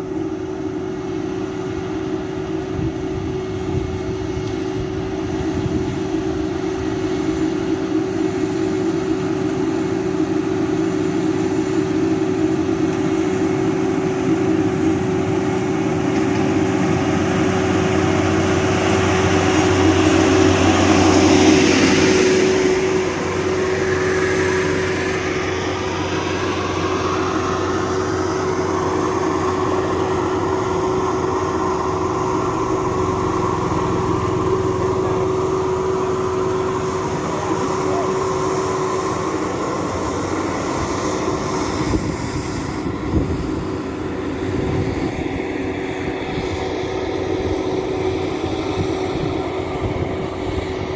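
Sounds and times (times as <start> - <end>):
combine harvester engine whine: 0.0 - 50.9.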